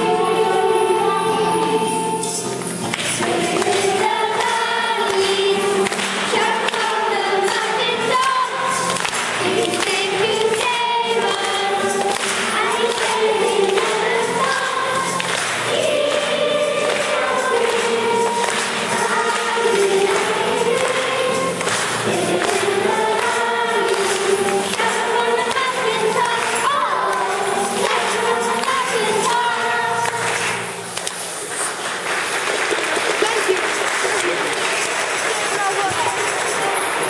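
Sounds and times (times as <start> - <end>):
choir singing a hymn: 0.0 - 30.9.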